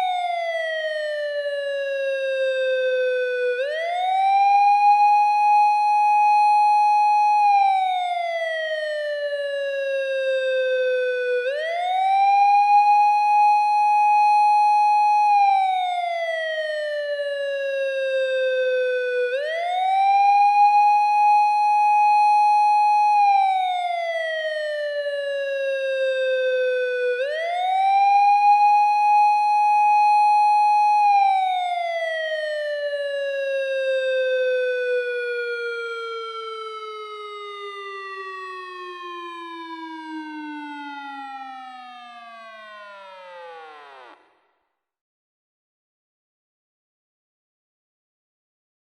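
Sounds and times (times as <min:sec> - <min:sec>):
police car siren wailing: 0:00.0 - 0:44.4.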